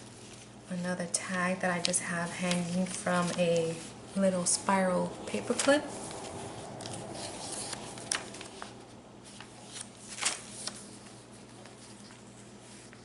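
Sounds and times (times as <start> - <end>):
paper rustling: 1.2 - 4.5, 5.3 - 13.0.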